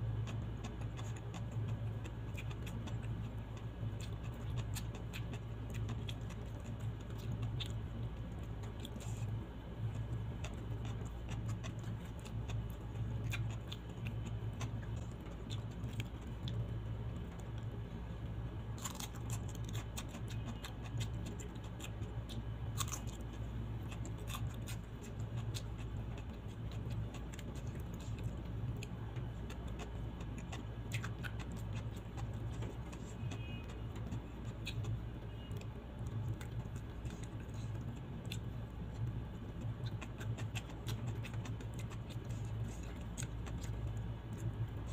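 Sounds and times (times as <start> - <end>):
chewing and mouth clicks: 0.0 - 44.9
steady low hum: 0.0 - 44.9.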